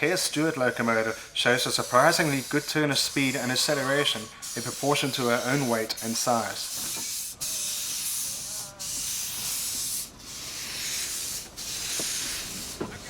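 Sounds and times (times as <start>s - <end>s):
steam locomotive exhaust beats: 0.0s - 13.0s.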